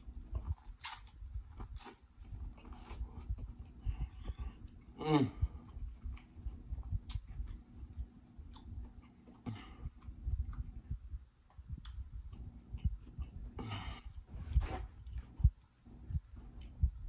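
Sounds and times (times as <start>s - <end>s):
person chewing: 0.0s - 16.8s.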